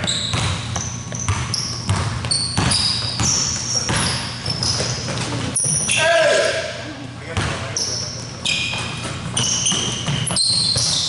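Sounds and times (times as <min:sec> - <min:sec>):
basketball dribbling thuds: 0:00.0 - 0:06.0, 0:07.3 - 0:07.9, 0:08.5 - 0:11.0
sneakers squeaking on hardwood: 0:00.0 - 0:06.4, 0:07.4 - 0:11.0.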